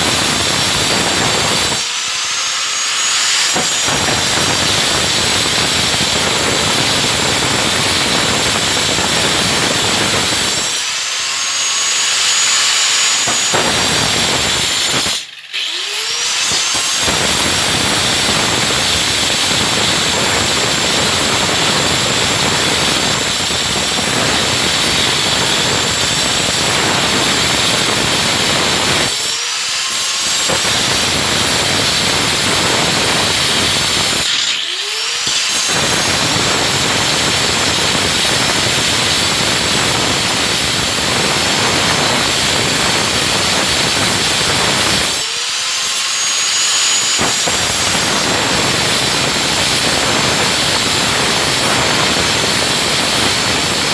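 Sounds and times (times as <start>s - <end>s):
circular saw cutting: 0.0s - 53.9s.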